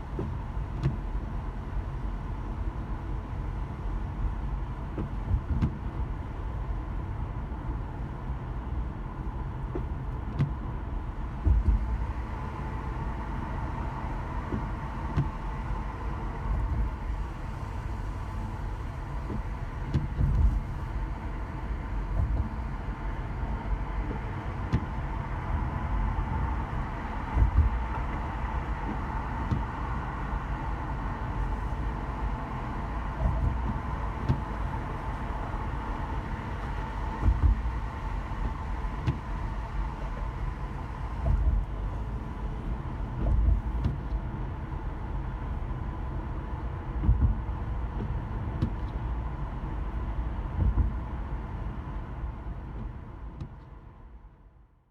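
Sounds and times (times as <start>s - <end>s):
car road and engine rumble: 0.0s - 54.5s.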